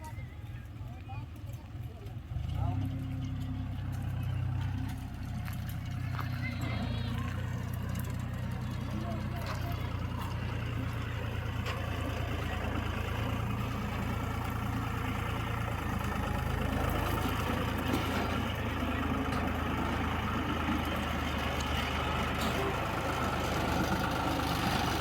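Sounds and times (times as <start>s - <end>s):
heavy diesel engine running: 1.4s - 25.0s.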